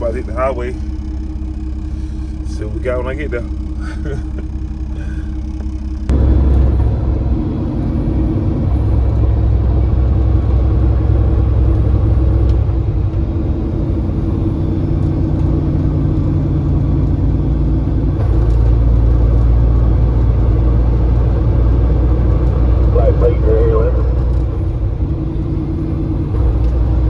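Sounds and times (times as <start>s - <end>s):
truck diesel engine rumble: 0.0s - 27.0s.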